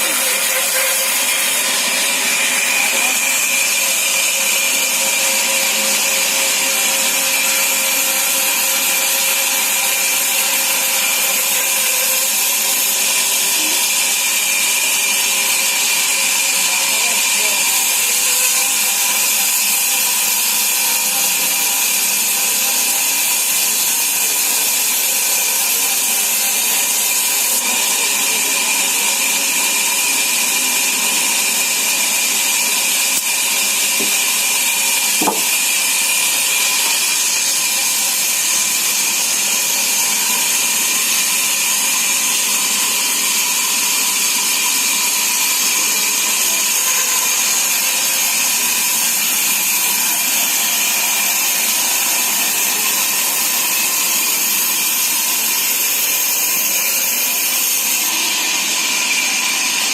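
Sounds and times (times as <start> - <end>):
saw whining through timber: 0.0 - 59.9.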